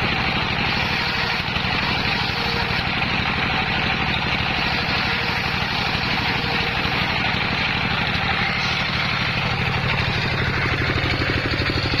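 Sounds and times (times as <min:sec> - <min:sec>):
circular saw engine running: 0:00.0 - 0:12.0.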